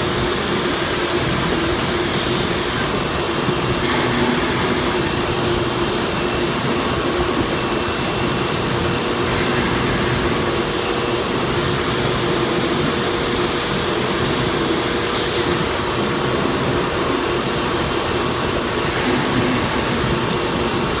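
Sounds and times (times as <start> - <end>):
woodworking machine whirring: 0.0 - 21.0.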